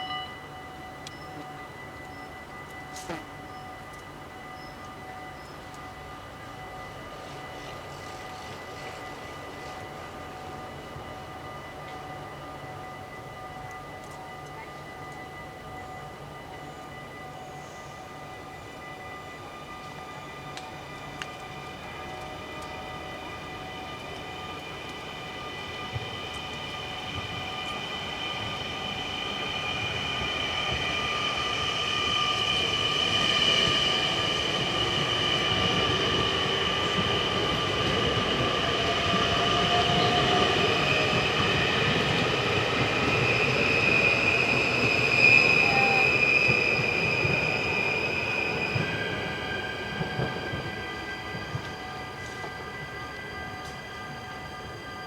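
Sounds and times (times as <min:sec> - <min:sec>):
crossing bells: 0:00.0 - 0:46.3
train passing: 0:00.0 - 0:55.0.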